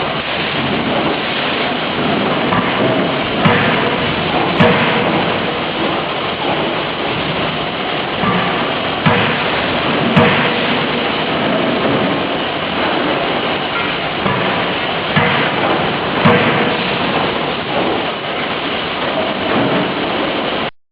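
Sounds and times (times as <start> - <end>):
forging hammer blows: 0.0 - 20.7
machinery roar: 0.0 - 20.7.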